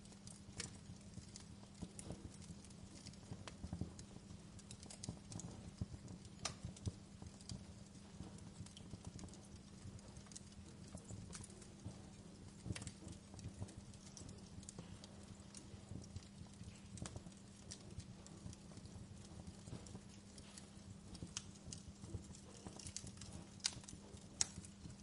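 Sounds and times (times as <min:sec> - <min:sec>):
low steady hum: 0:00.0 - 0:25.0
wood fire crackling: 0:00.0 - 0:25.0.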